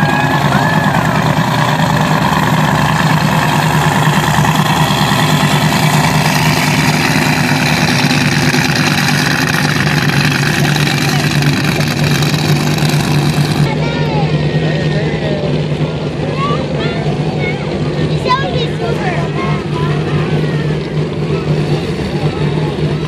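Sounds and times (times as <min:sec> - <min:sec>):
powerboat engines humming: 0:00.0 - 0:23.0.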